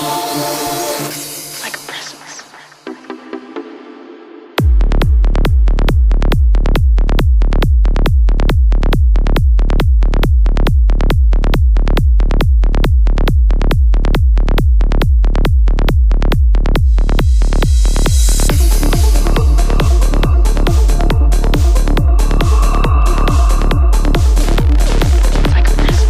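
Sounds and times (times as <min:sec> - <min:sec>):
rolling bassline: 0:04.5 - 0:26.0
kick drum four on the floor: 0:04.6 - 0:26.0.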